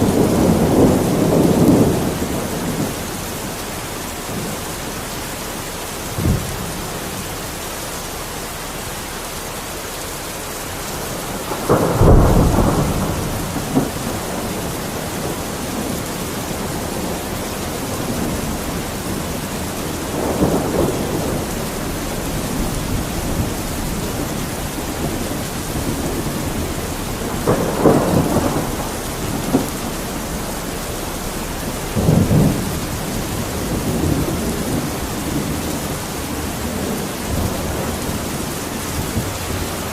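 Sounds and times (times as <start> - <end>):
thunder rumbling: 0.0 - 8.8, 10.7 - 39.9
heavy rain: 0.0 - 39.9.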